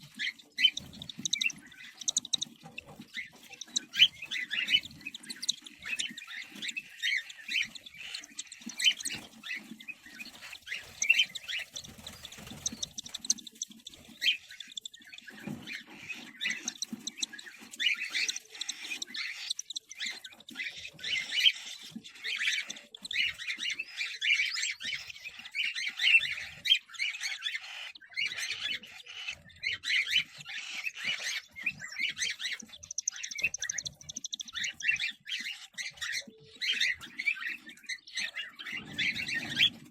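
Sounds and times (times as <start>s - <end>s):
cockatiels chirping and squawking: 0.0s - 39.9s.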